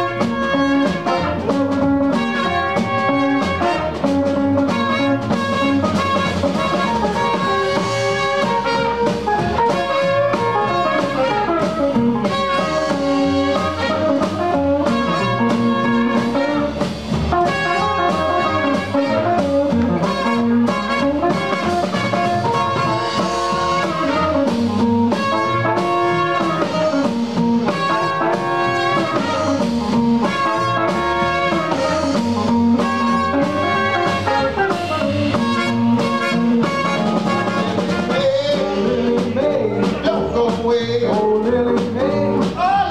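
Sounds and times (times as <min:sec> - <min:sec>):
horn playing melody: 0:00.0 - 0:40.9
drum kit: 0:00.0 - 0:42.9
electric guitar: 0:00.0 - 0:42.9.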